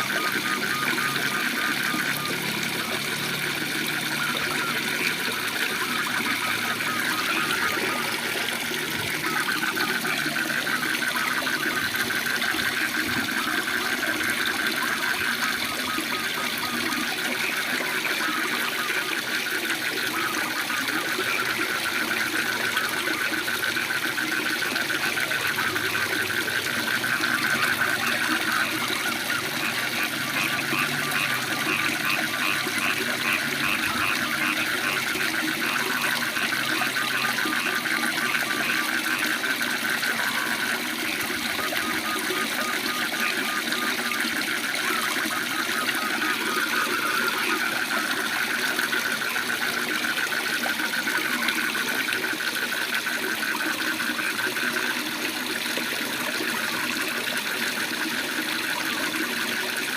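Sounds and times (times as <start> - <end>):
frogs calling in pulsed trills: 0.0 - 59.9.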